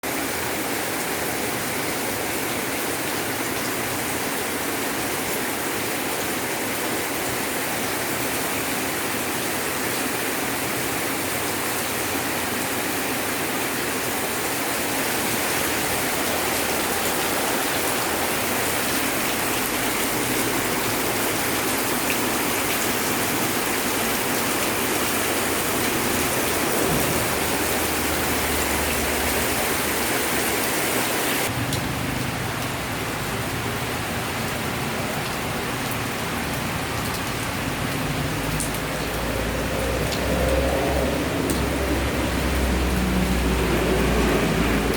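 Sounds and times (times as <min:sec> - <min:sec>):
floodwater running: 0:00.0 - 0:44.9
heavy rain pouring: 0:00.0 - 0:44.9.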